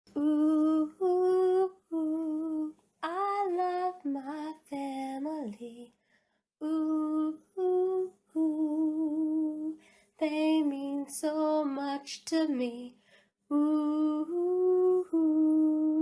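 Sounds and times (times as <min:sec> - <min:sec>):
woman singing unaccompanied: 0:00.1 - 0:06.0, 0:06.6 - 0:16.0.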